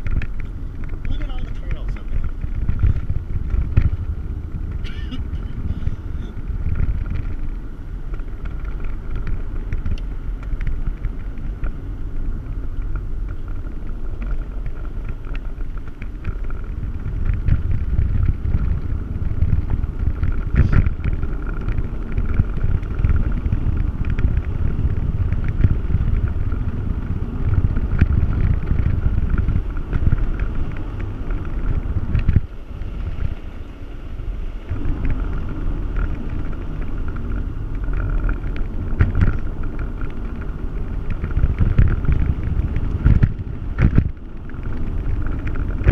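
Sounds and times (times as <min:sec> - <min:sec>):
knocks and rattles over bumps: 0:00.0 - 0:33.4, 0:34.6 - 0:45.9
engine and tyres rumbling: 0:00.0 - 0:45.9.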